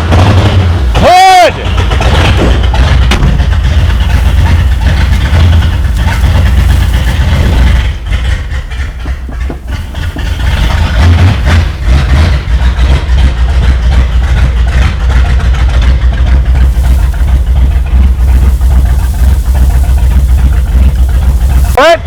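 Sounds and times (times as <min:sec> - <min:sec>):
loud car engine running: 0:00.0 - 0:22.0.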